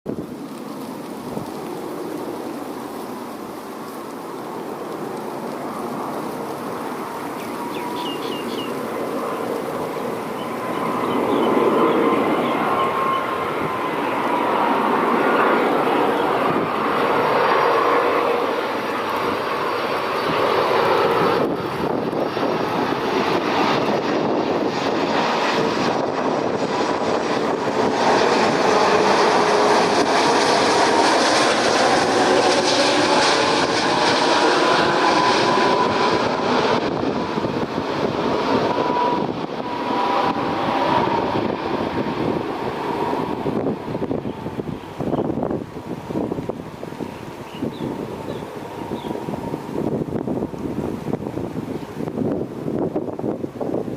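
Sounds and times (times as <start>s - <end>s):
jet airliner roar: 0.1s - 53.9s.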